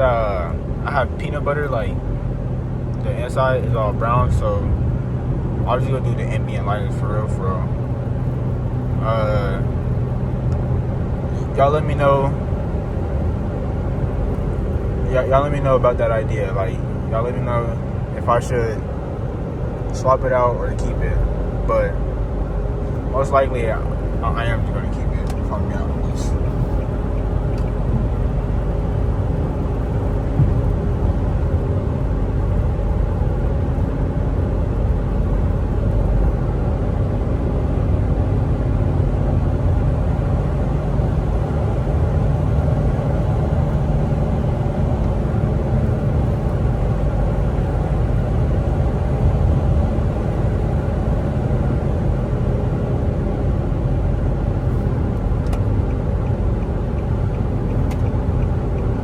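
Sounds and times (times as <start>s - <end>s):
car engine rumble in cabin: 0.0s - 59.0s
tyre and road noise: 0.0s - 59.0s.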